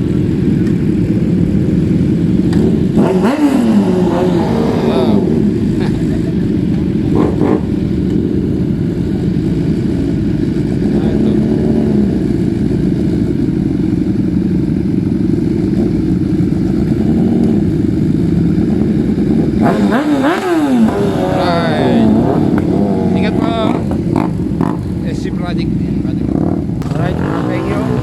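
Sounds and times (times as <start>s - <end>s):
motorcycle engines rumbling: 0.0s - 28.0s.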